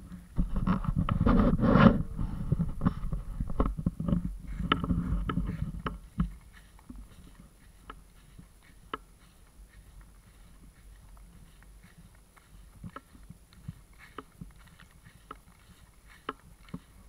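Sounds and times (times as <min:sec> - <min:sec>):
rustling and knocks on camera: 0:00.3 - 0:17.0.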